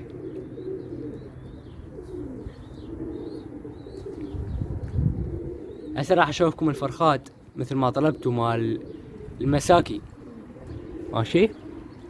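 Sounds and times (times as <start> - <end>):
pigeons cooing: 0.0 - 12.0
small birds chirping: 0.0 - 12.0.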